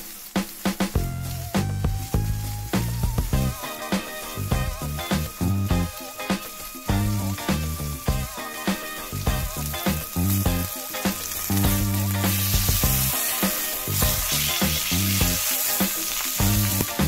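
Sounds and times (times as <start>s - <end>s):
steak sizzling in a pan: 0.0s - 17.0s
background music: 0.1s - 17.0s.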